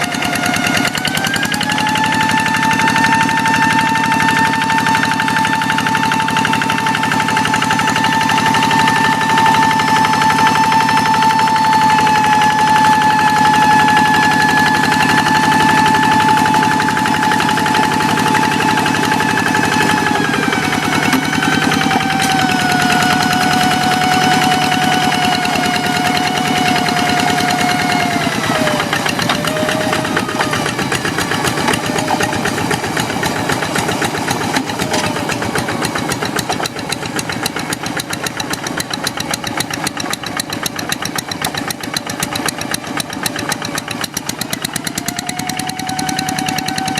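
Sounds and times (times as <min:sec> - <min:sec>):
high mechanical whine: 0:00.0 - 0:41.8
diesel engine putter: 0:00.0 - 0:46.9.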